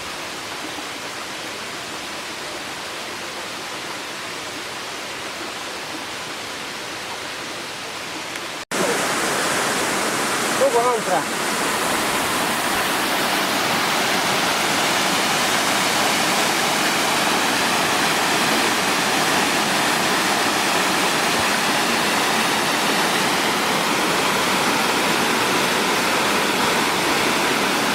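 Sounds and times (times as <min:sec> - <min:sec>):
waterfall roar: 0:00.0 - 0:27.9.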